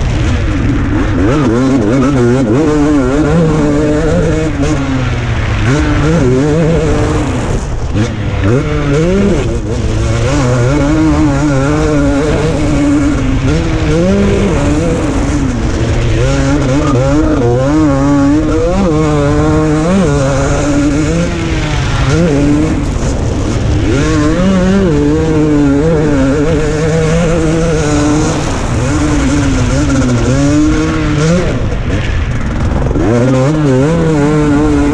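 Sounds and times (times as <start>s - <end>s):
motocross engine revving: 0.0s - 34.9s.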